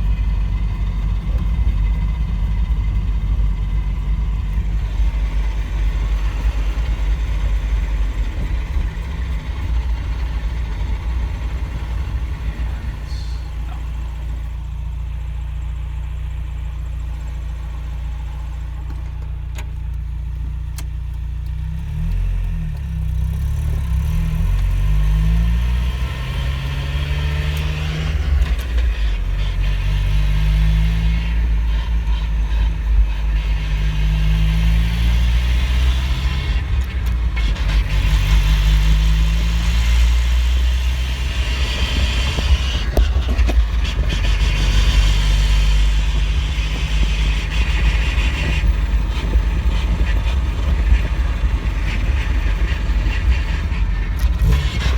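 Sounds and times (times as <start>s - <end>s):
car engine accelerating and shifting: 0.0s - 54.9s
road rumble and tyre noise: 0.0s - 54.9s.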